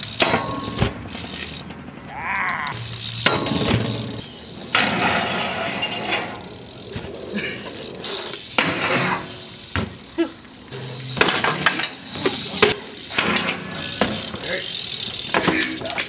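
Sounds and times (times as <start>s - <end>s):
bike hub ratchet clicking: 0.0s - 4.8s, 7.6s - 16.0s
bike clanking on metal rails: 0.0s - 16.0s.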